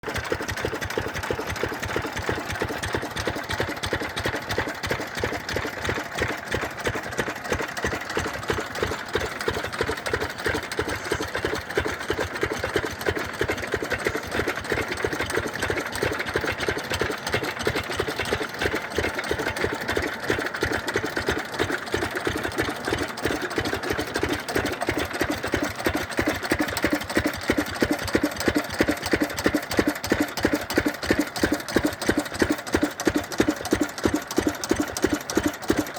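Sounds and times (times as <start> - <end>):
diesel pump engine knocking: 0.0 - 35.9.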